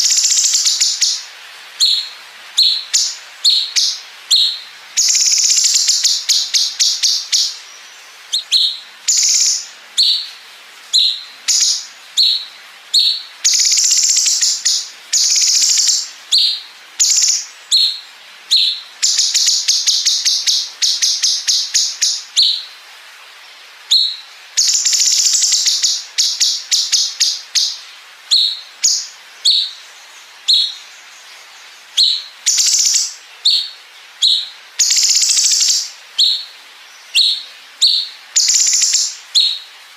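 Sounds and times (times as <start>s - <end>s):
bird singing chirps and trills: 0.0s - 22.8s, 23.9s - 39.7s.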